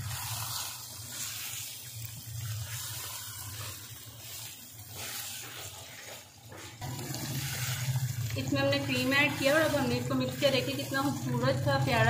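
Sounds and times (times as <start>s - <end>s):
curry sizzling in a hot pan: 0.0s - 12.0s
wooden spatula stirring: 0.0s - 12.0s.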